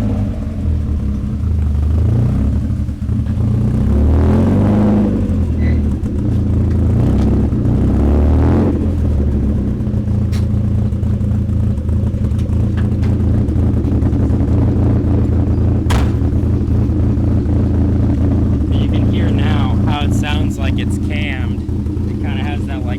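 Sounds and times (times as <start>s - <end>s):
car engine revving and idling: 0.0s - 22.9s.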